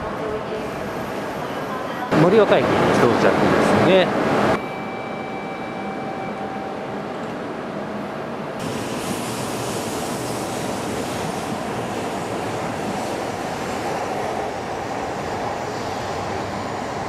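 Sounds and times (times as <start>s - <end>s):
high-speed train running: 0.0s - 17.0s.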